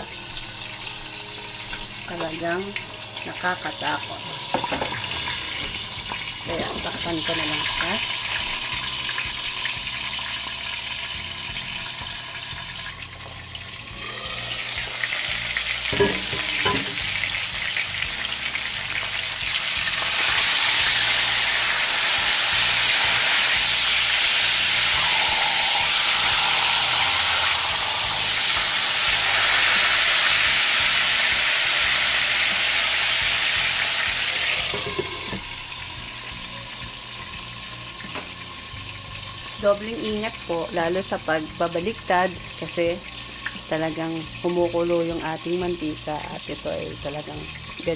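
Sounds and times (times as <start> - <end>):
fish sizzling in hot oil: 0.0 - 47.9.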